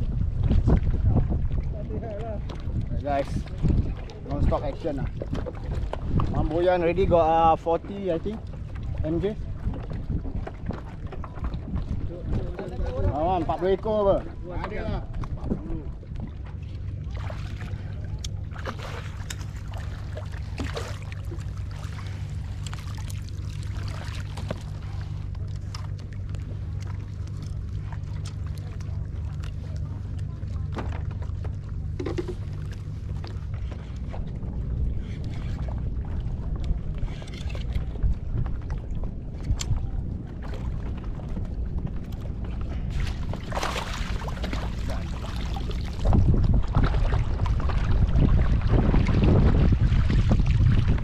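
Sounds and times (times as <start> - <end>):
steady low rumble: 0.0 - 51.0
water lapping against kayak hull: 0.0 - 51.0.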